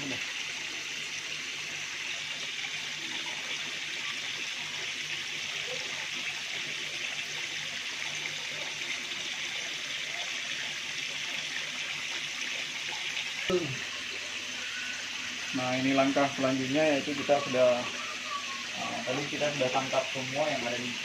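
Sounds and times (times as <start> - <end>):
water pouring into tank: 0.0 - 21.0.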